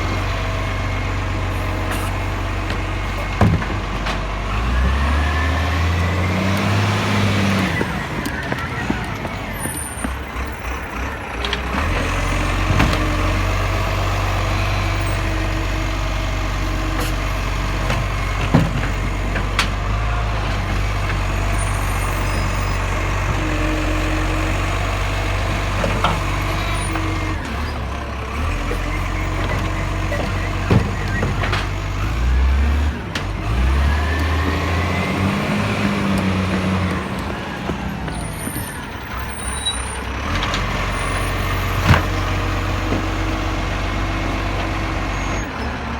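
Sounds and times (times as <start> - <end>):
diesel truck engine revving: 0.0 - 45.9.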